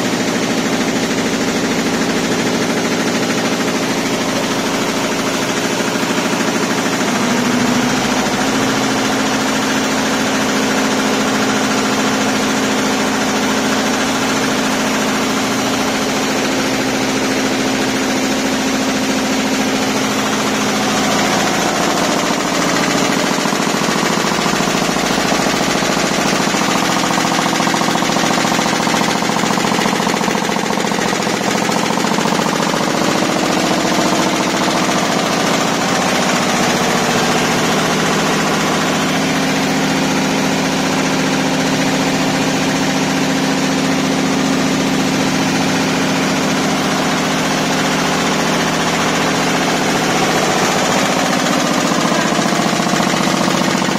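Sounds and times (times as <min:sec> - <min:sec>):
embroidery machine stitching: 0:00.0 - 0:53.9.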